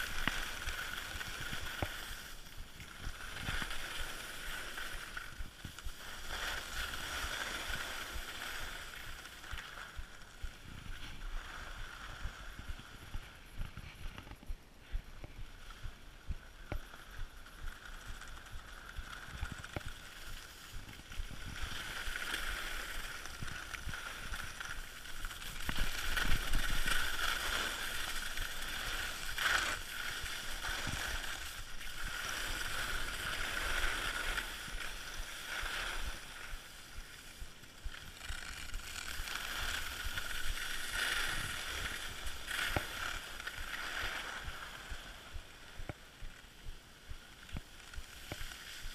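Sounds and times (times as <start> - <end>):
skis scraping over snow: 0.0 - 48.9
wind rumble on microphone: 0.0 - 48.9.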